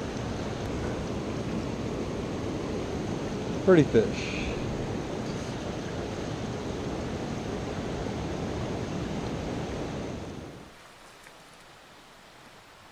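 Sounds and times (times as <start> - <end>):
stream rushing over rocks: 0.0 - 12.9.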